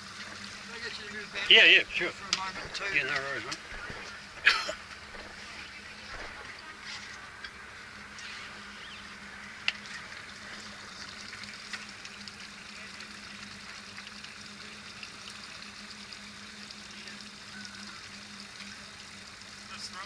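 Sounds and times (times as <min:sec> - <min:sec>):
boat engine hum: 0:00.0 - 0:20.0.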